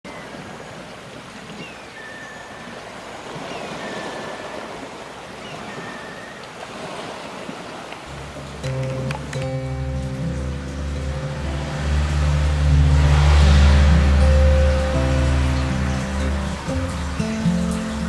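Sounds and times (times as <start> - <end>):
waves breaking on a beach: 0.1 - 18.0.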